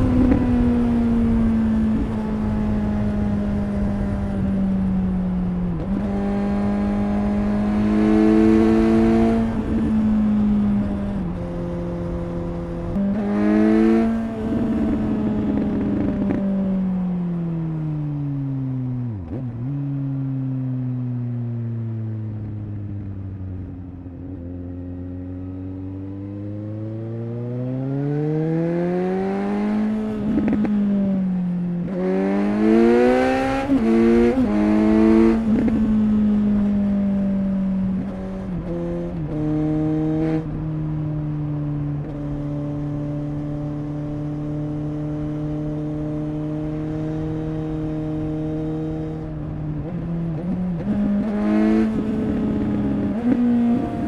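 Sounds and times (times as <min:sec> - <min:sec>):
motorcycle engine revving: 0:00.0 - 0:17.2, 0:22.4 - 0:54.0.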